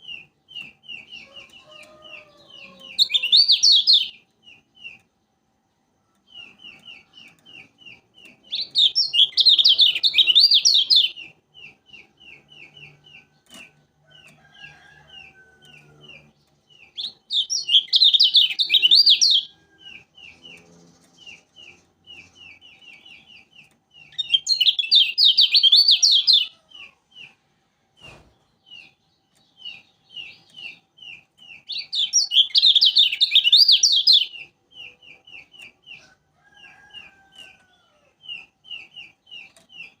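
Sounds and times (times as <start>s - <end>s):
bird warbling song: 0.0s - 5.1s, 6.0s - 27.4s, 28.1s - 40.0s.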